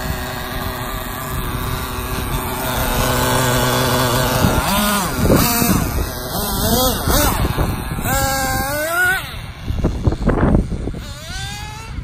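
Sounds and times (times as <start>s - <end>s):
small two-stroke engine buzzing: 0.0s - 12.0s.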